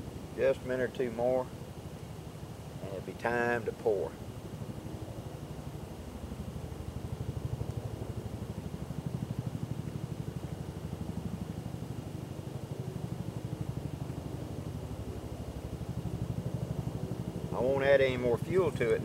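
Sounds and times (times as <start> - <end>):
low pulsing drone: 0.0 - 19.0.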